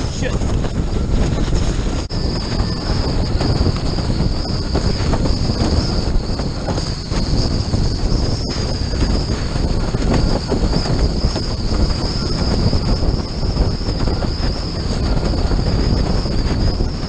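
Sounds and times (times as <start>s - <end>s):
water rushing under hull: 0.0s - 17.0s
wind buffeting microphone: 0.0s - 17.0s.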